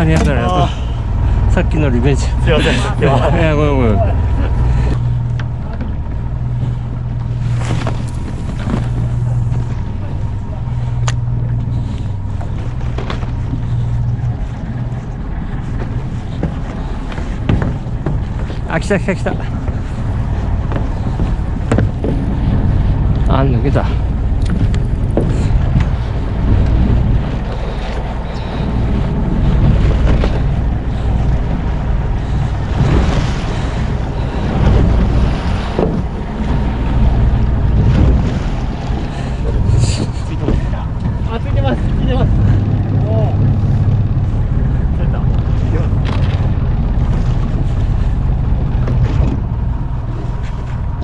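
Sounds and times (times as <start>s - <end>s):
boat engine humming: 0.0s - 51.0s
waves washing: 0.0s - 51.0s
wind buffeting microphone: 0.0s - 51.0s.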